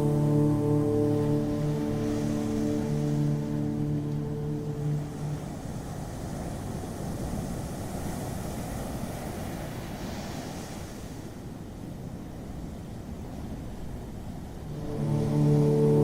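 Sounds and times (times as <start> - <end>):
wave hissing up the shore: 0.0 - 16.0
waves breaking: 0.0 - 16.0.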